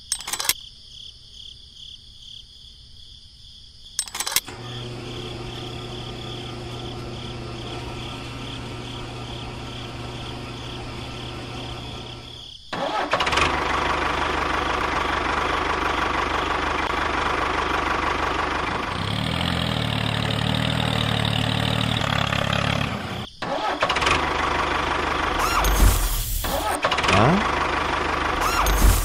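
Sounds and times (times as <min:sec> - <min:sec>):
tractor engine running: 0:04.0 - 0:29.0.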